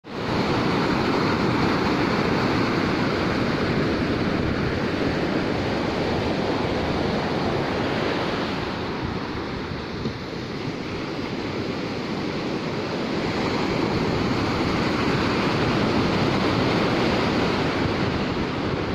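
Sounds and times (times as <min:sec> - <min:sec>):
ocean surf on beach: 0:00.0 - 0:18.9.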